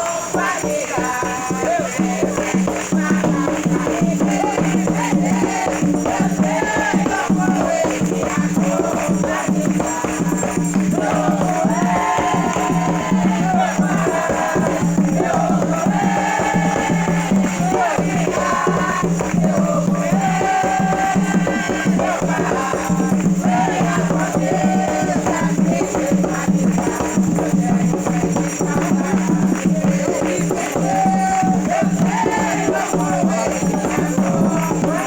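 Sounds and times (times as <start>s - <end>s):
hand percussion: 0.0s - 35.0s
voices singing a chant: 0.0s - 35.0s.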